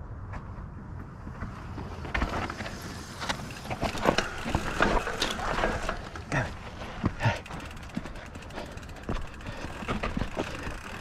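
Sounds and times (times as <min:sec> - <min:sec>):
bike knocking on bumps: 0:01.0 - 0:11.0
bike tyres grinding over rock: 0:01.5 - 0:11.0
bike frame and chain rattling: 0:02.0 - 0:11.0.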